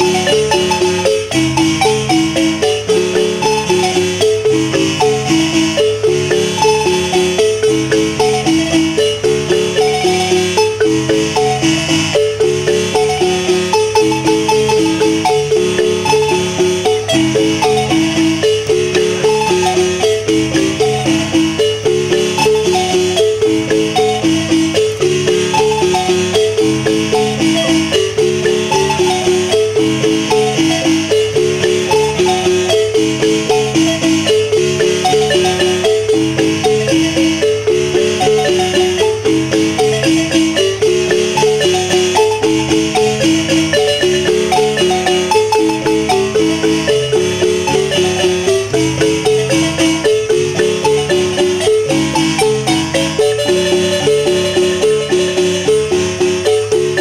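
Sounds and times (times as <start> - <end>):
marimba ensemble playing: 0.0 - 57.0.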